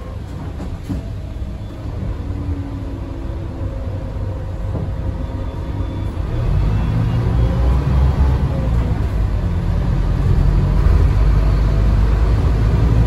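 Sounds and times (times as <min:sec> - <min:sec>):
bus drivetrain rumble: 0:00.0 - 0:13.0.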